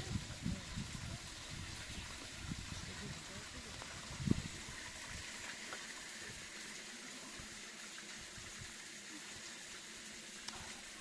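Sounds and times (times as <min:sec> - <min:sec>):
water hissing: 0:00.0 - 0:11.0.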